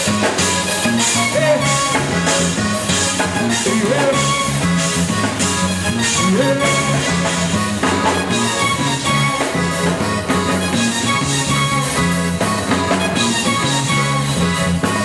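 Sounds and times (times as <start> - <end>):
repeating bass line: 0.0 - 15.0
steady drum beat: 0.0 - 15.0
zydeco band playing: 0.0 - 15.0.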